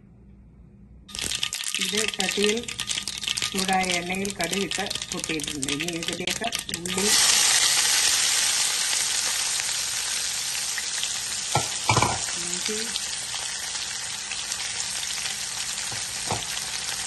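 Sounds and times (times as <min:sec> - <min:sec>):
onions sizzling in hot oil: 0:01.1 - 0:17.0.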